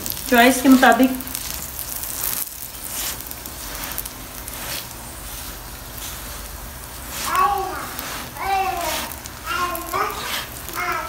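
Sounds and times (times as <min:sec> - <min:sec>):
oil sizzling under flatbread: 0:00.0 - 0:11.0.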